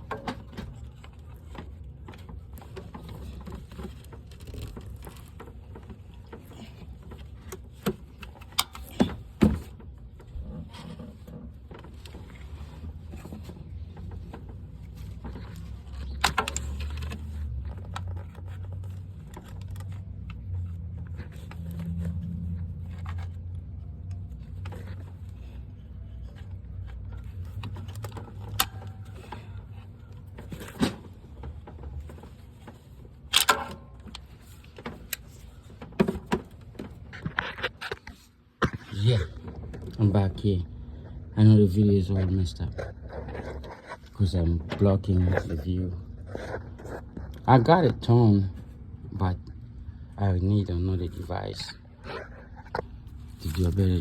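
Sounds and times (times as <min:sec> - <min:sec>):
low steady rumble: 0:00.0 - 0:37.5, 0:38.1 - 0:54.0.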